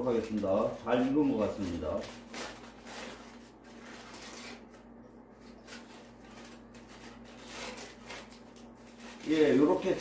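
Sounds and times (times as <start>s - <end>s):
wrapping rustling: 0.0s - 10.0s.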